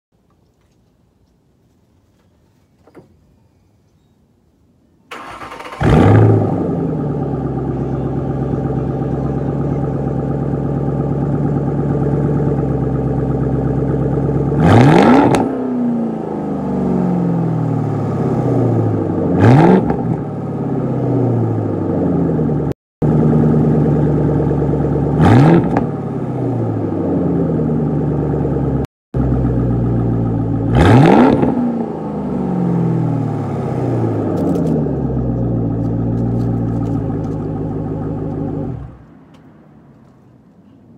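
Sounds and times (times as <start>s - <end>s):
car engine idling and revving: 5.2s - 40.9s.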